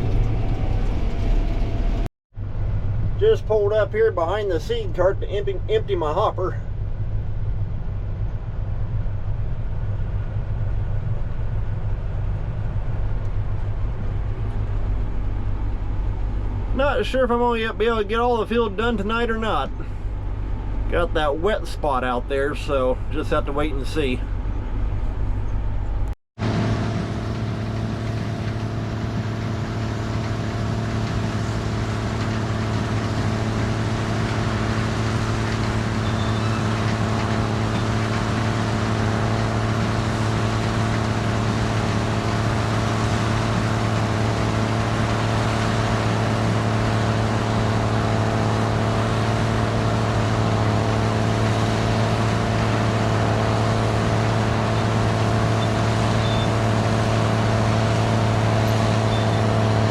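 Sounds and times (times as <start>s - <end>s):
combine engine drone: 0.0s - 59.9s.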